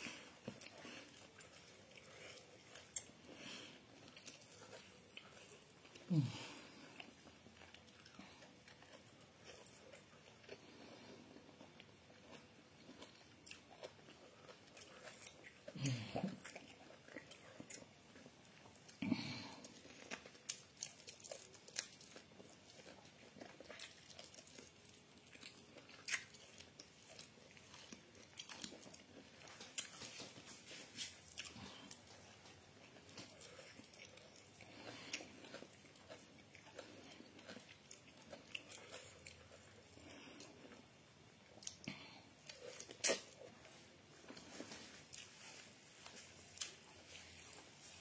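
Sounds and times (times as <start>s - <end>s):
person chewing with crunches: 0.0s - 48.0s.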